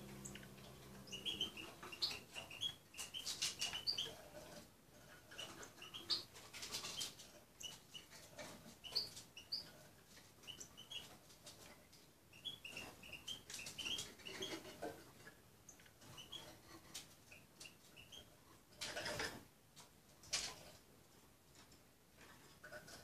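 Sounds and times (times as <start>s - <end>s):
songbirds chirping: 0.0s - 18.4s.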